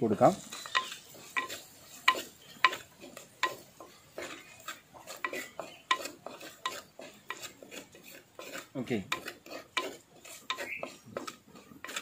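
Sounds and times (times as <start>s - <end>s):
spices sizzling in oil: 0.0s - 12.0s
wooden spatula scraping clay pot: 0.0s - 12.0s.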